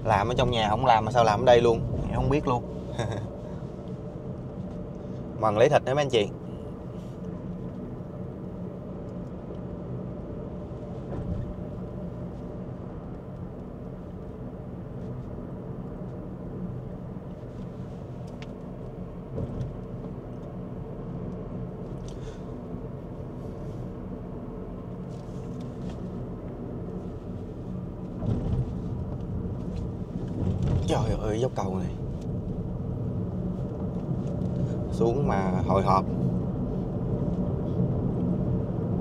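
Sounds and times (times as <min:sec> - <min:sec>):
car engine hum: 0:00.0 - 0:39.0
tyre road noise: 0:00.0 - 0:39.0.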